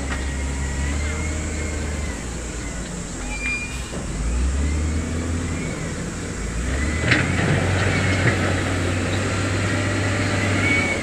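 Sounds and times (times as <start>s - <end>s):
diesel machinery rumbling: 0.0s - 11.0s.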